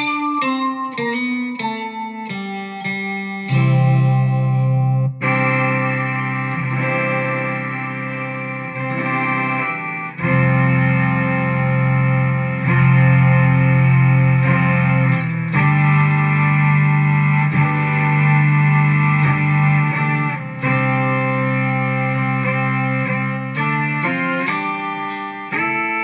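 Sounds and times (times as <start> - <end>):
synth guitar chords: 0.0 - 26.0.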